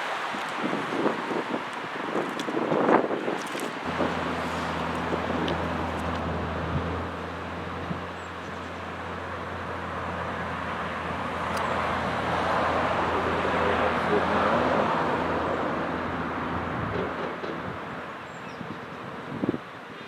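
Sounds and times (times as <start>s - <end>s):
diesel train engine humming: 3.2s - 19.4s.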